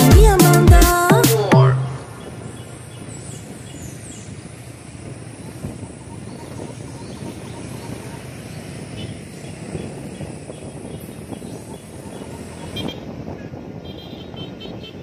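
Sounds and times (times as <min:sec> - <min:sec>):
road noise: 0:00.0 - 0:15.0
motorcycle engine: 0:01.6 - 0:15.0
wind buffeting microphone: 0:02.0 - 0:15.0.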